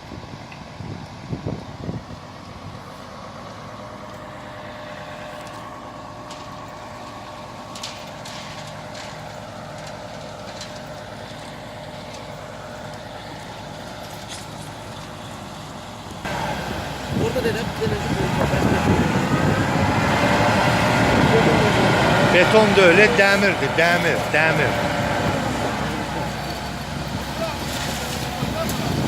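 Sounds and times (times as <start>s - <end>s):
engine running: 0.1s - 29.0s.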